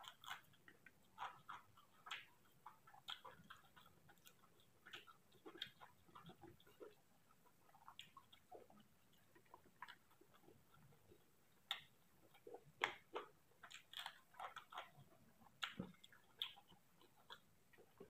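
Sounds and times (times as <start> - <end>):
person chewing with mouth clicks: 0.0 - 18.0.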